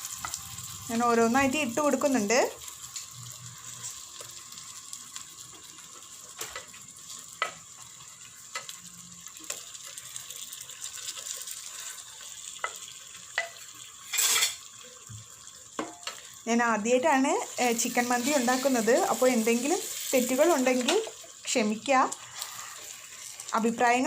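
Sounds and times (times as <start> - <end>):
sauce sizzling in a pot: 0.0 - 24.0.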